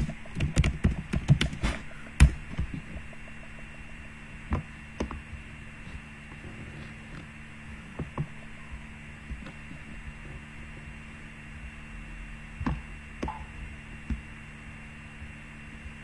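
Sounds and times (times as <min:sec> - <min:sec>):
room and microphone hiss: 0:00.0 - 0:16.0.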